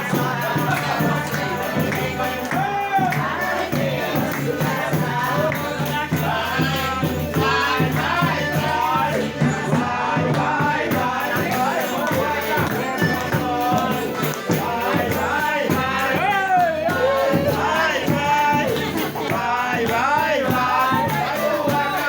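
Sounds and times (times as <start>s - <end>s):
group of people singing: 0.0s - 22.0s
tambourine shaking: 0.0s - 22.0s.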